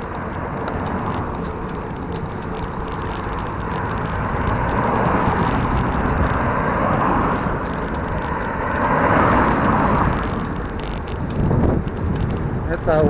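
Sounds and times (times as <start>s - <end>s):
bicycle road noise: 0.0s - 13.0s.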